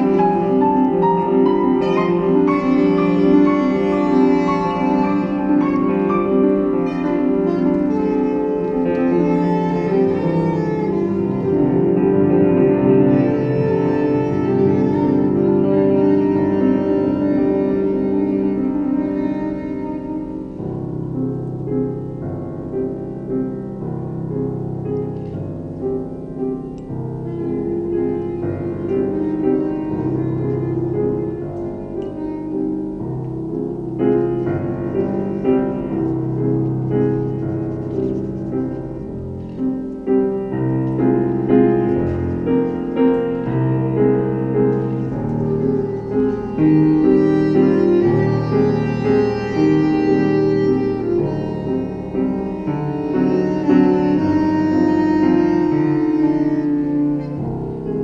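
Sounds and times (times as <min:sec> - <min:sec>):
slow keyboard chords: 0:00.0 - 0:58.0.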